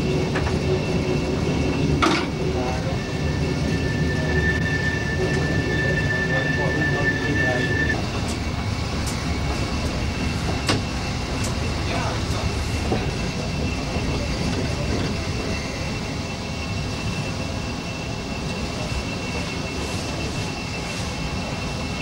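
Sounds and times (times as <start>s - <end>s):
constant high whine: 0.0s - 22.0s
train engine rumble: 0.0s - 22.0s.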